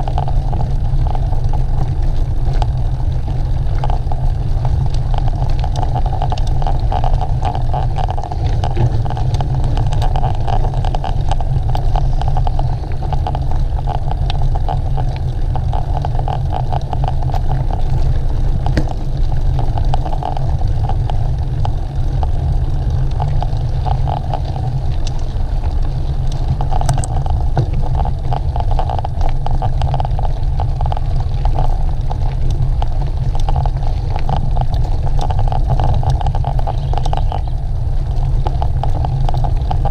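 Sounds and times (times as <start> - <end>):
heavy wind rumble on microphone: 0.0 - 39.9
small rattles and clicks: 0.0 - 39.9.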